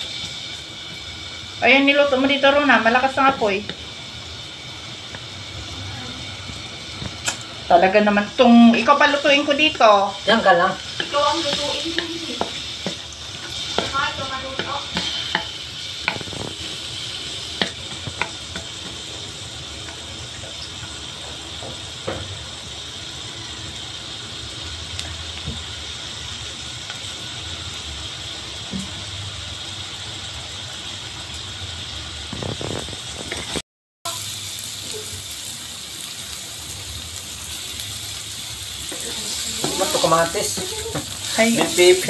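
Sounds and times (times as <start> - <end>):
garlic sizzling in hot oil: 0.0 - 42.0.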